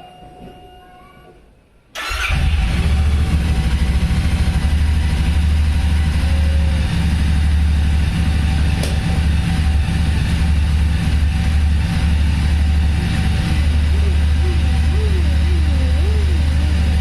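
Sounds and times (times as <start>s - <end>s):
motorcycle engine starting and idling: 2.0s - 17.0s.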